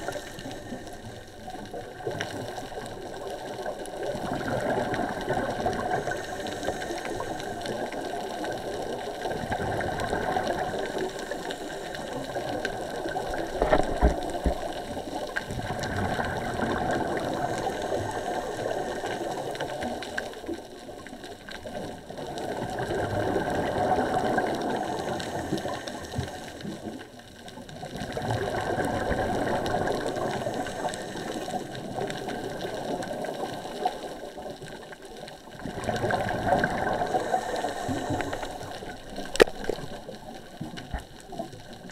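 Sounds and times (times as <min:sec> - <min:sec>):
scuba bubbles: 0:00.0 - 0:41.9.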